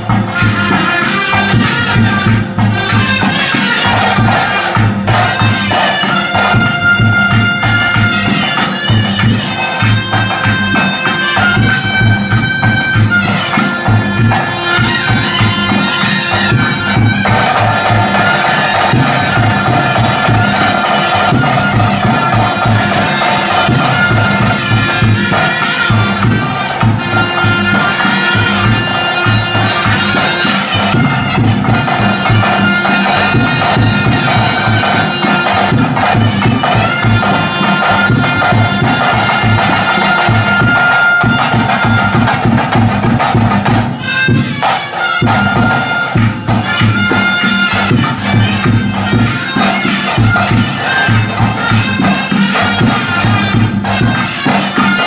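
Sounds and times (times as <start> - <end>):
double-reed pipe wailing melody: 0.0 - 42.8, 43.8 - 55.0
rhythmic drumming: 0.0 - 55.0.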